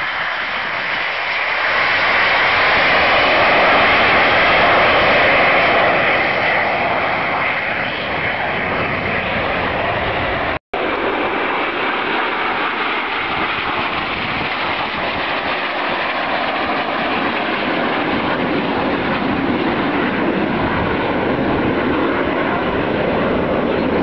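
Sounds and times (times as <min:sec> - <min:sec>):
jets roaring past: 0:00.0 - 0:24.0.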